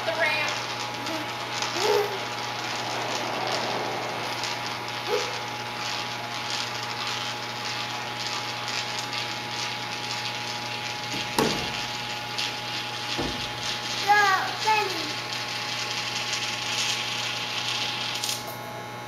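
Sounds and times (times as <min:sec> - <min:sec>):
coin rolling in spiral funnel: 0:00.0 - 0:18.6.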